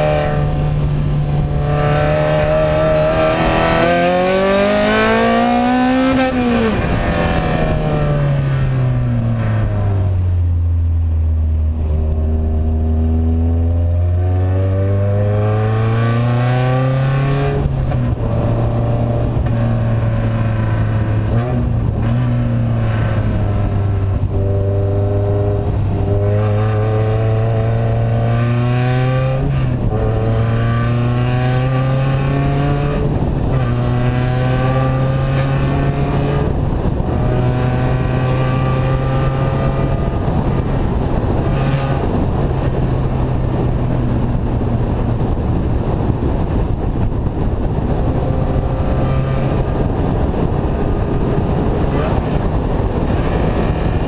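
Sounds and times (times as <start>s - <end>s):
engine with open exhaust revving: 0.0s - 54.0s.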